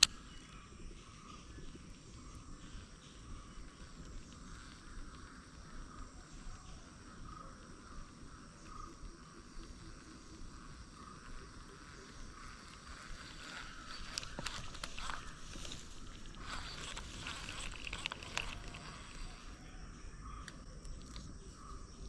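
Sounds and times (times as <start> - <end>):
small animal chirping: 0.0 - 19.7.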